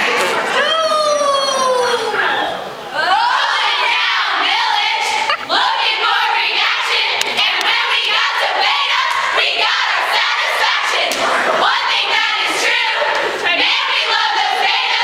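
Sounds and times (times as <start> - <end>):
audience crowd noise: 0.0 - 15.0
women singing together: 3.0 - 15.0.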